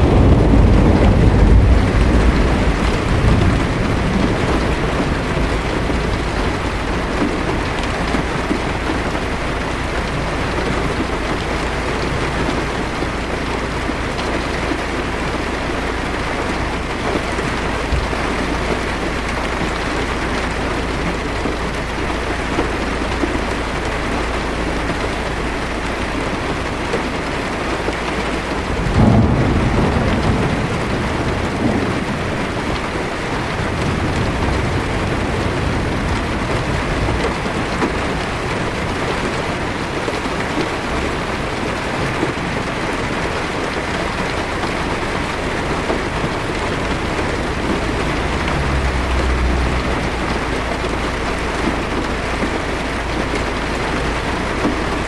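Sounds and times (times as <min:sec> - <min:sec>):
low thunder rumble: 0:00.0 - 0:26.9, 0:27.8 - 0:55.0
heavy rain drumming on car: 0:00.0 - 0:55.0.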